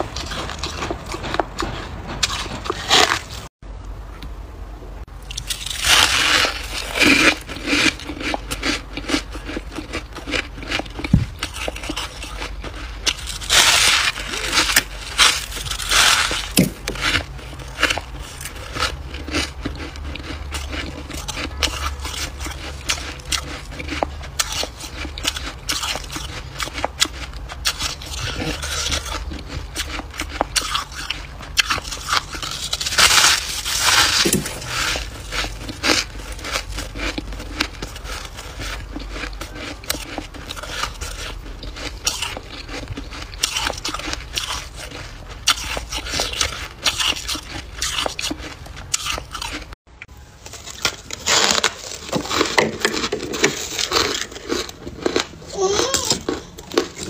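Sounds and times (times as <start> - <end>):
crunching frost chewing: 0.0 - 3.5, 5.2 - 57.0.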